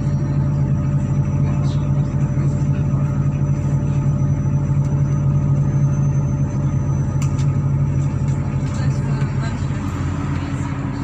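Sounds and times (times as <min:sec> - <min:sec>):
bus engine hum and rumble: 0:00.0 - 0:11.0.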